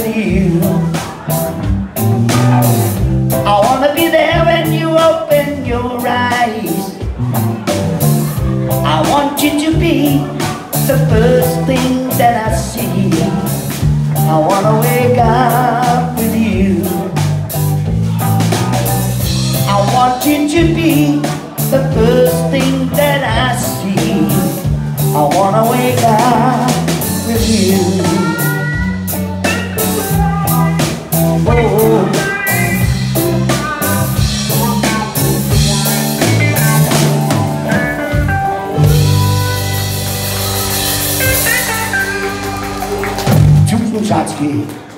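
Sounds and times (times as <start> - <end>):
electric bass: 0.0 - 44.7
drum kit: 0.0 - 44.9
electric guitars: 0.0 - 44.9.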